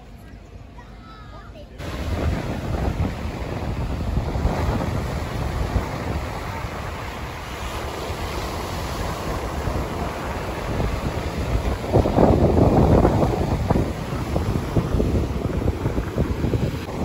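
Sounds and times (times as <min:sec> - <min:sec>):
ocean surf on beach: 0:01.7 - 0:17.0
wind buffeting microphone: 0:01.8 - 0:17.0.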